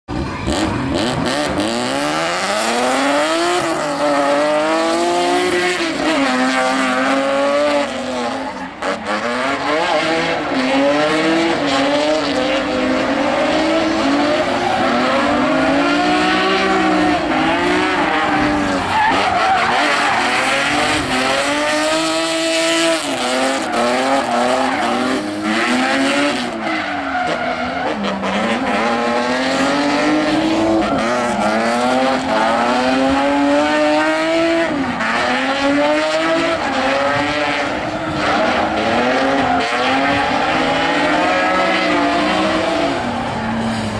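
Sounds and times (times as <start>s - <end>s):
car engines revving: 0.1s - 43.9s.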